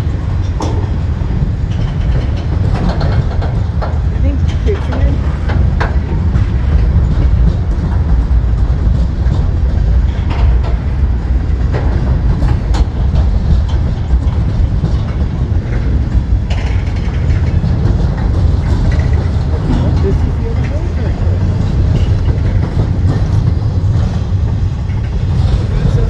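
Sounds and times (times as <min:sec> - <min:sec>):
steel wheels rumbling on rail: 0:00.0 - 0:26.0
train cars clicking and clanking: 0:00.0 - 0:26.0.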